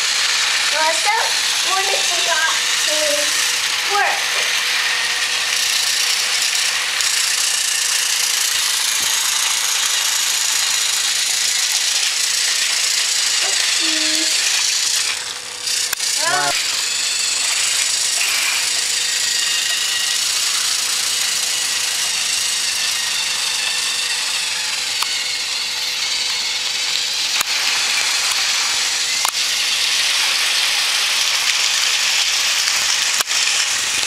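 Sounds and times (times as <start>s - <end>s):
toy train motors whirring: 0.0s - 34.0s.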